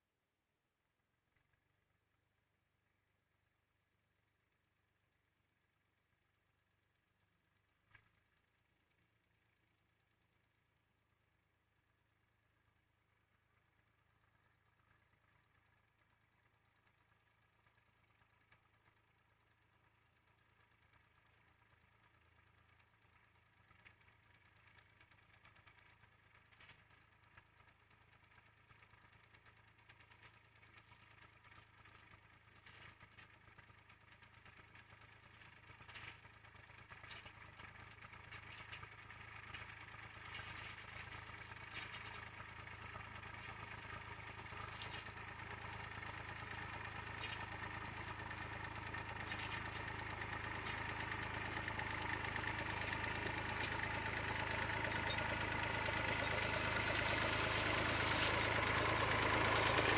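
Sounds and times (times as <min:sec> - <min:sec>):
tractor diesel engine running: 0:11.8 - 0:59.9.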